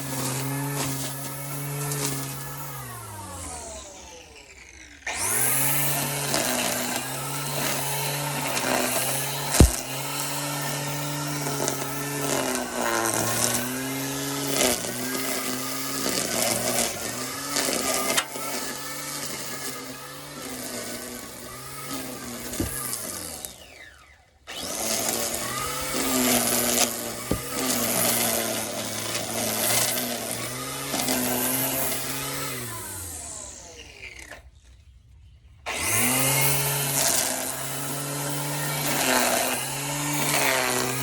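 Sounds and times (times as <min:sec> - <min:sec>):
electric string trimmer motor: 0:00.0 - 0:34.7, 0:35.6 - 0:41.0.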